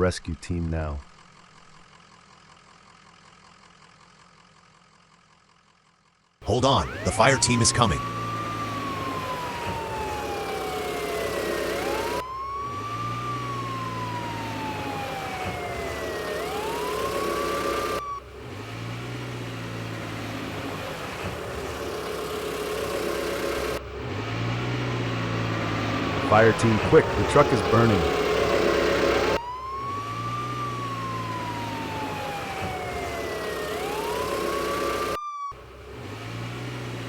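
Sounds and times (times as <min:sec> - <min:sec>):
low engine rumble: 0:00.4 - 0:36.1
fire truck siren wailing: 0:06.4 - 0:37.0.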